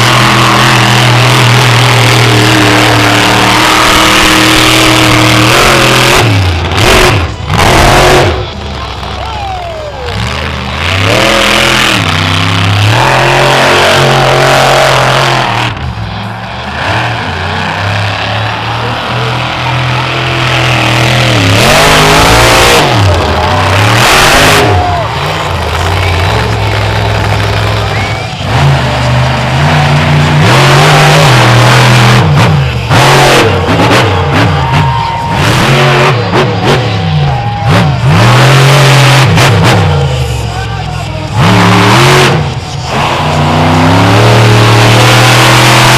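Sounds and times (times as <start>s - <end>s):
truck engine revving hard: 0.0s - 45.9s.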